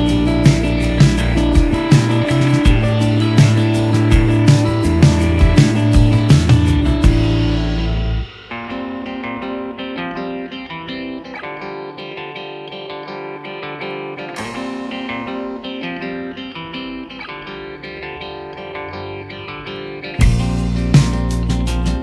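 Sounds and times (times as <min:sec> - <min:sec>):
plucked guitar music: 0:00.0 - 0:22.0.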